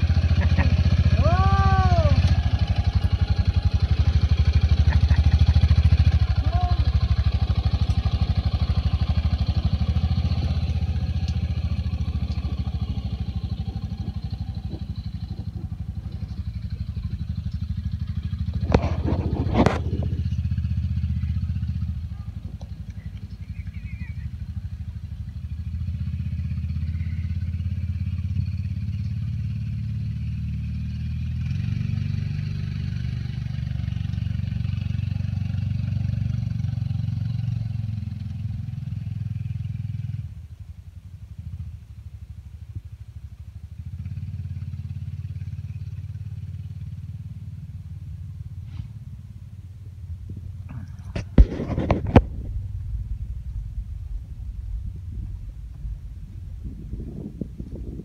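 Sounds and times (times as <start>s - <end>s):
utility vehicle engine humming: 0.0s - 58.0s.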